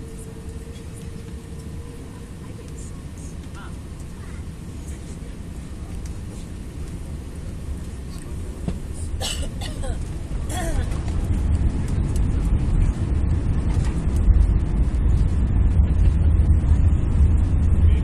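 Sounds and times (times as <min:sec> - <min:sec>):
jet engines roaring: 0:00.0 - 0:18.0
runway rumble: 0:00.0 - 0:18.0.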